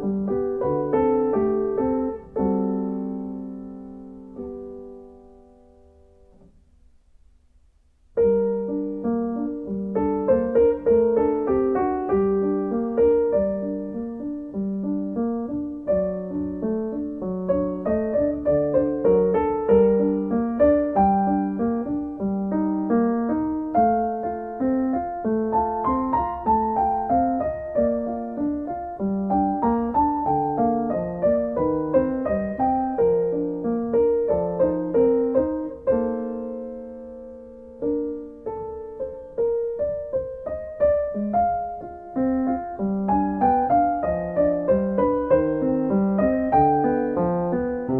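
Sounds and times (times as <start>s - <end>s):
piano music: 0.0s - 6.9s, 8.0s - 47.9s.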